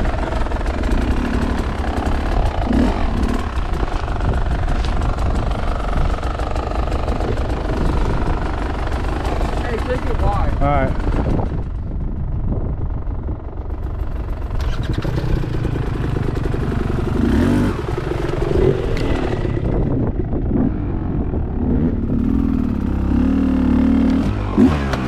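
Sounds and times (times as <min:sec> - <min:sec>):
dirt bike engine revving: 0:00.0 - 0:11.6, 0:14.5 - 0:25.0.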